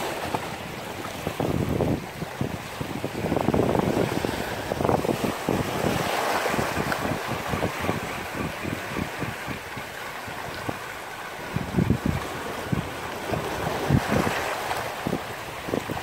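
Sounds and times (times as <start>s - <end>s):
sea waves on rocky shore: 0.0s - 16.0s
wind buffeting microphone: 0.0s - 16.0s.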